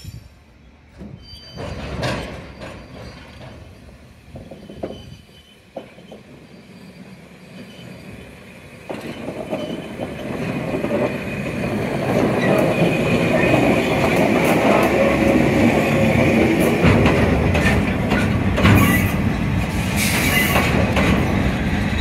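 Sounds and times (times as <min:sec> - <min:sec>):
high squeal of train wheels: 0:00.0 - 0:16.8, 0:18.1 - 0:20.8
electric locomotive running: 0:02.7 - 0:22.0.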